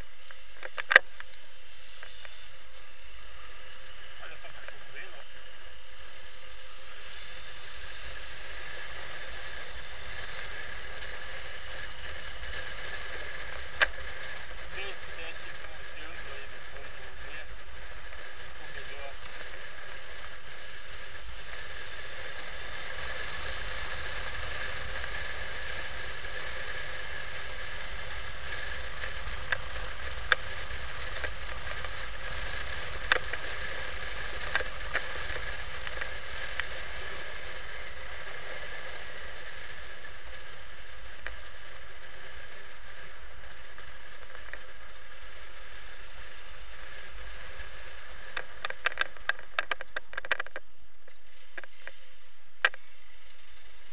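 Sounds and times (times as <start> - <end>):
faint high whine: 0.0 - 53.9
wind and road noise: 0.0 - 53.9.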